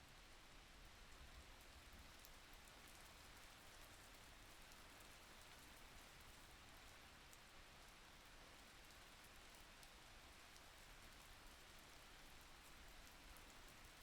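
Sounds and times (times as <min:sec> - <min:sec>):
faint steady rainfall: 0:00.0 - 0:14.0.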